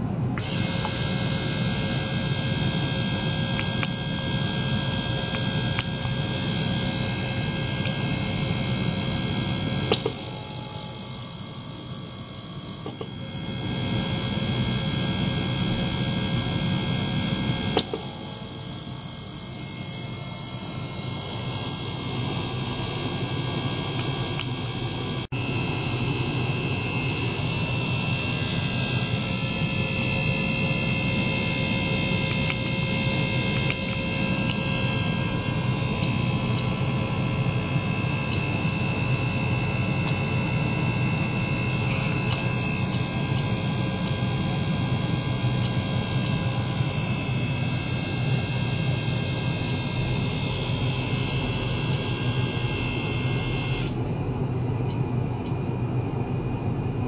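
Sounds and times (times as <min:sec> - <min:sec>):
ultrasonic cleaner buzzing hiss: 0:00.0 - 0:54.0.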